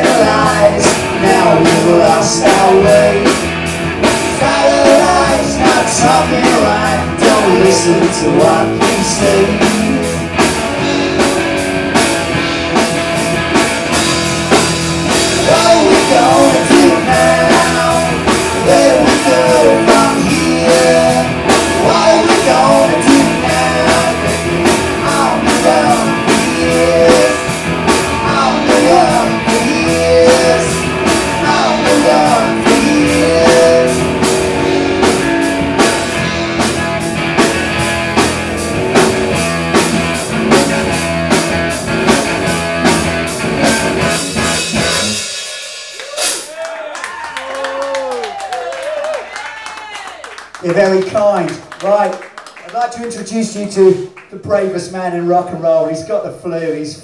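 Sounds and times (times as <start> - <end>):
rock band playing: 0.0 - 55.7.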